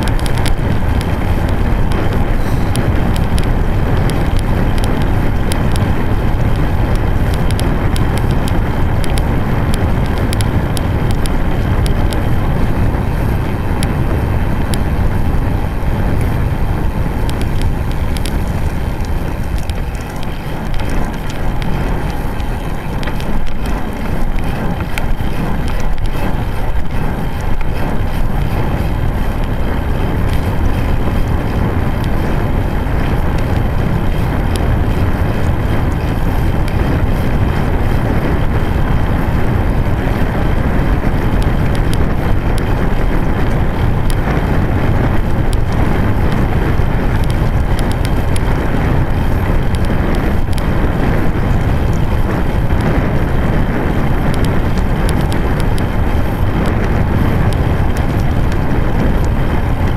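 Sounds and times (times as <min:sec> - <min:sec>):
small clicks and rattles: 0:00.0 - 0:59.9
tyres rolling on asphalt: 0:00.0 - 0:59.9
wind buffeting microphone: 0:00.0 - 0:59.9.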